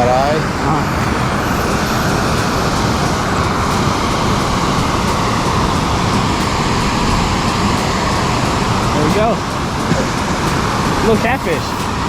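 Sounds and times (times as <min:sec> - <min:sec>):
water roaring through spillway: 0:00.0 - 0:12.0.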